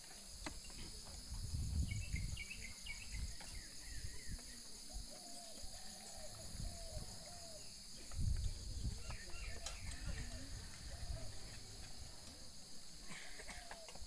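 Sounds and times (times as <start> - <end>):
crickets and insects chirring: 0.0 - 14.0
birds chirping: 1.8 - 14.0.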